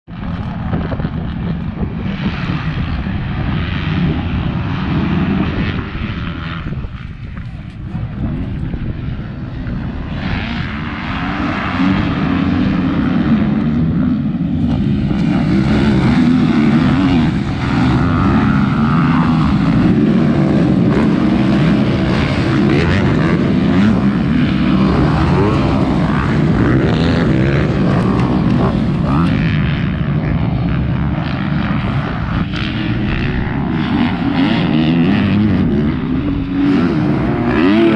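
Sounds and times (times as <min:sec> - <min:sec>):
motocross bike engines revving: 0:00.1 - 0:37.9.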